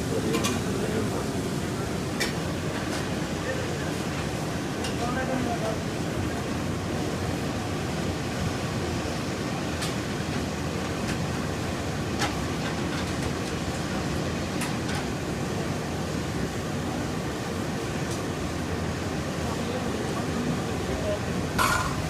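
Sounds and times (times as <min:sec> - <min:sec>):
rumbling background noise: 0:00.0 - 0:22.0.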